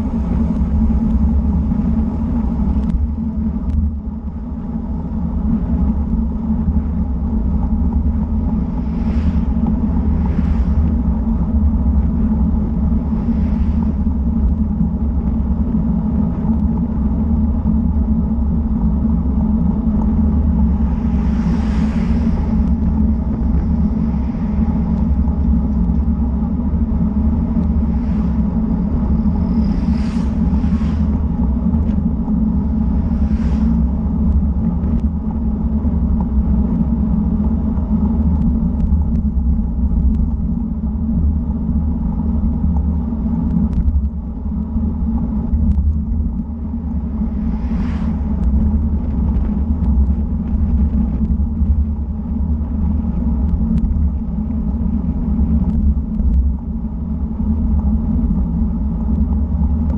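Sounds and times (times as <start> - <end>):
bicycle road noise: 0.0 - 59.9
wind rumble: 0.0 - 59.9.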